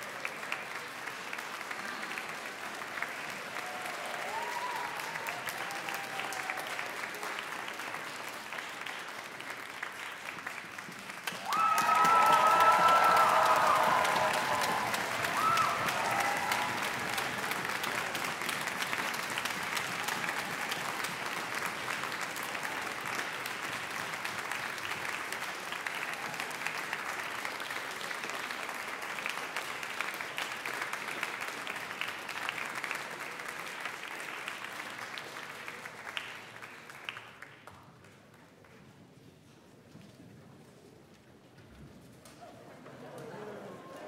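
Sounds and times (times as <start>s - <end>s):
audience applauding: 0.0s - 38.8s.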